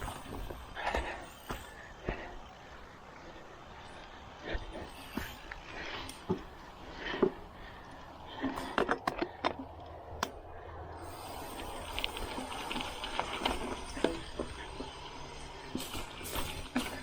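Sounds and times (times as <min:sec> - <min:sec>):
bicycle tyres rolling through mud: 0:00.0 - 0:17.0.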